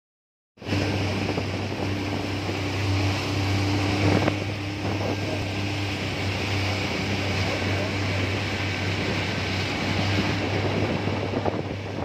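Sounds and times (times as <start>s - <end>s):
outboard motor running: 0.6s - 12.0s
water rushing: 0.6s - 12.0s
wind buffeting microphone: 0.6s - 12.0s.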